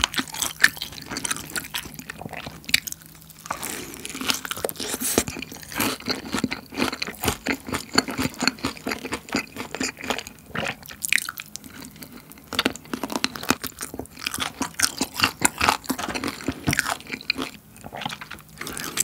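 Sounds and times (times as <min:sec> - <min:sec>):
crunching and chewing fried chicken: 0:00.0 - 0:19.0.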